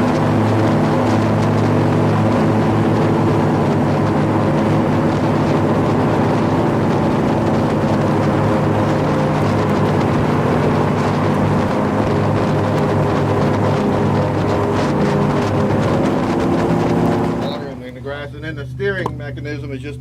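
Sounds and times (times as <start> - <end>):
airboat engine drone: 0.0 - 20.0.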